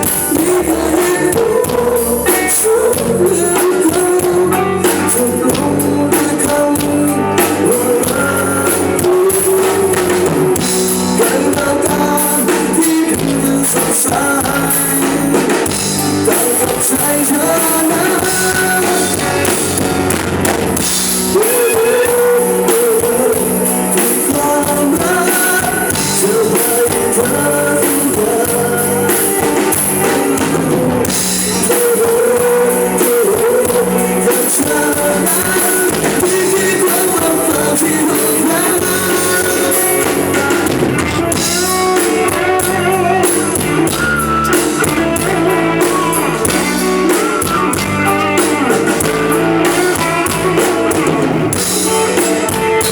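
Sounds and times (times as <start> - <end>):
bass guitar: 0.0 - 52.9
drum kit: 0.0 - 52.9
electric guitar: 0.0 - 52.9.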